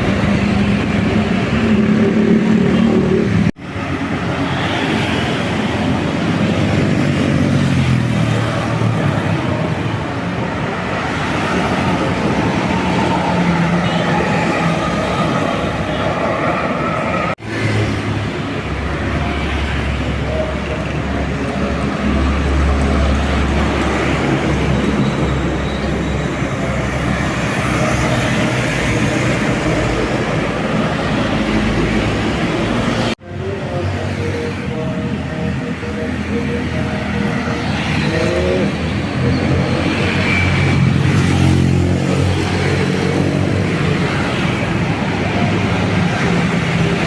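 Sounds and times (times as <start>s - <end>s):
bus engine rumbling: 0.0s - 47.0s
road traffic noise: 0.0s - 47.0s.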